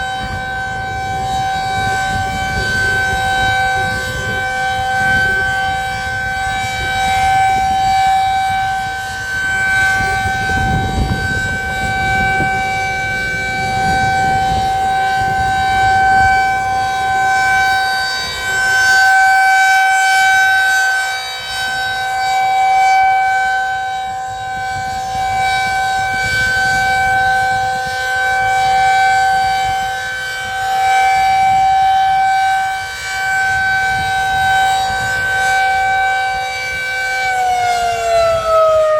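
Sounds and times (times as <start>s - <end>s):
rotating warning siren steady tone: 0.0s - 38.9s.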